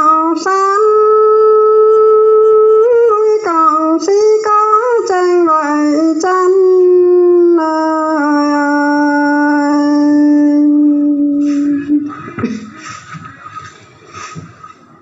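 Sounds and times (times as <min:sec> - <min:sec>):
person singing folk song: 0:00.0 - 0:12.8.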